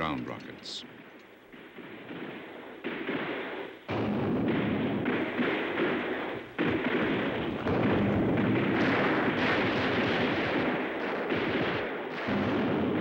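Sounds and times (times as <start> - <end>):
artillery fire and explosions: 0.0 - 13.0.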